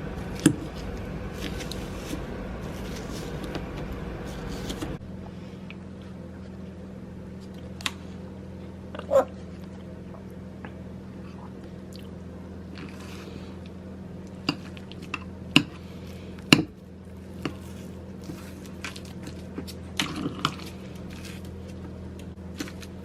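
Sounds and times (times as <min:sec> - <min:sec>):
food mixture squishing by hand: 0:00.0 - 0:23.0
low hum: 0:00.0 - 0:23.0.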